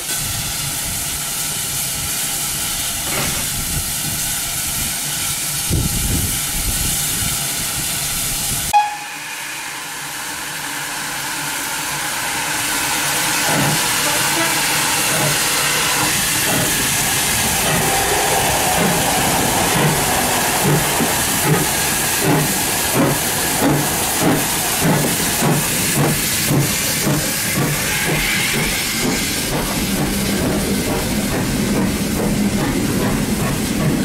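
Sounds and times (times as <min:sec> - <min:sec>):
steam hissing: 0:00.0 - 0:34.0
steam locomotive chuffing: 0:00.0 - 0:34.0
train coaches rumbling by: 0:00.0 - 0:34.0.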